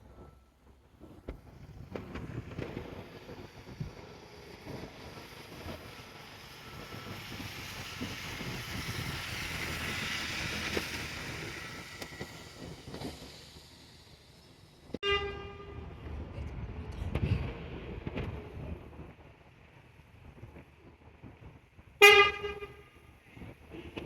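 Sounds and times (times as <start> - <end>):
train rushing past on rails: 0.0 - 24.0.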